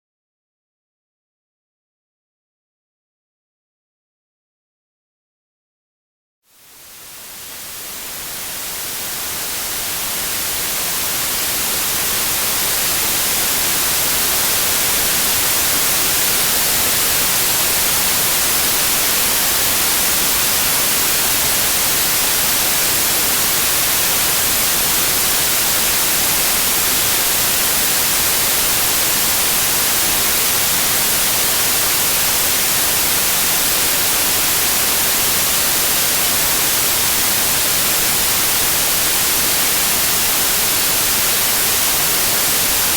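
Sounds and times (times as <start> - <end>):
white noise hiss: 6.5 - 42.9.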